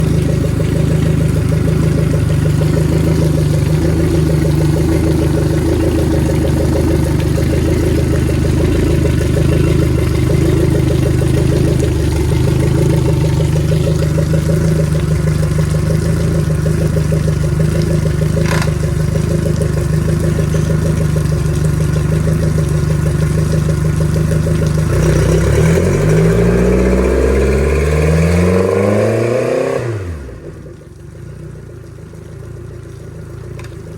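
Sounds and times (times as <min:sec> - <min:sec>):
outboard motor revving: 0:00.0 - 0:33.9
outboard motor running: 0:00.0 - 0:33.9.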